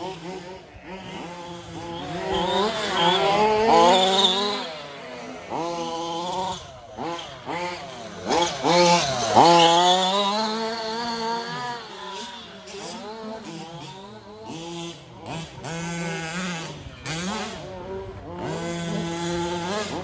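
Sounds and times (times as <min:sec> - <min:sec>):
small two-stroke engines revving: 0:00.0 - 0:20.0.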